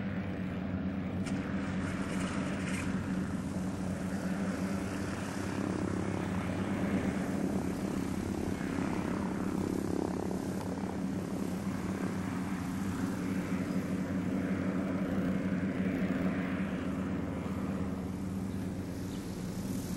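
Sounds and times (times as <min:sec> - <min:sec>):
helicopter engine and rotors: 0:00.0 - 0:19.9.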